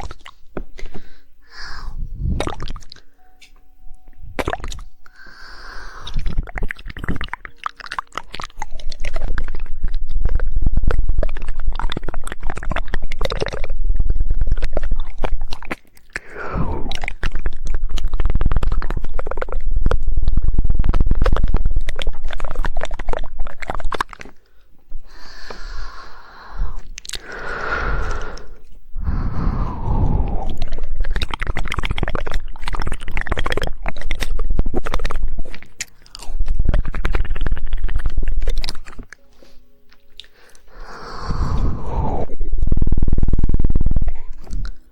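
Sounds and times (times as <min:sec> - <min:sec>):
wet mouth sounds: 0:00.0 - 0:03.2, 0:04.3 - 0:44.9
rapid tongue clicking: 0:04.4 - 0:24.5, 0:25.1 - 0:39.2, 0:39.9 - 0:44.9.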